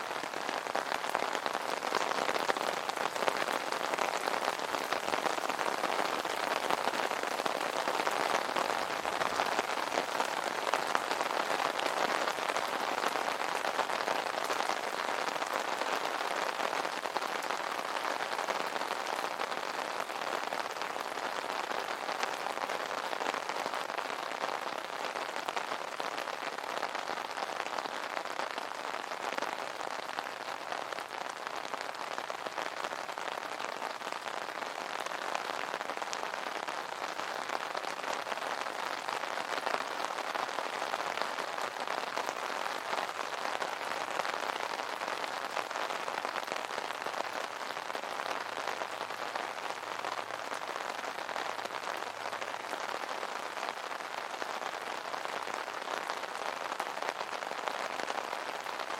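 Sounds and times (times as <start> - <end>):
rain on an umbrella: 0.0 - 58.9.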